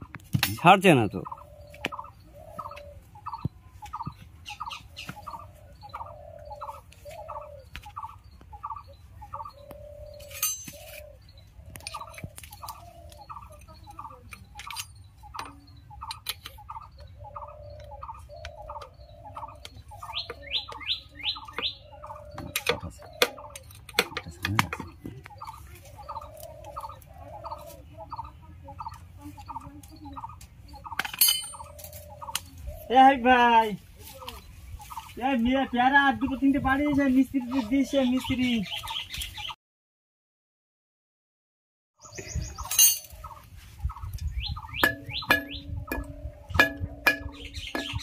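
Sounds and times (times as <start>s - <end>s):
bird calling: 0.0s - 39.6s, 42.0s - 48.0s.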